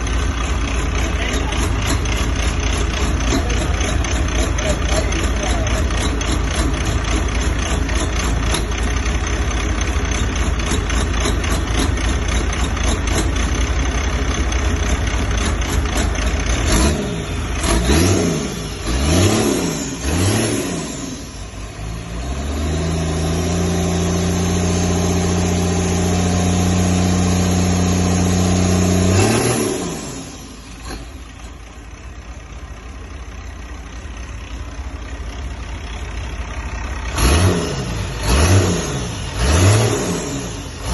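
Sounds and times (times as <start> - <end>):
diesel engine idling and revving: 0.0 - 40.9.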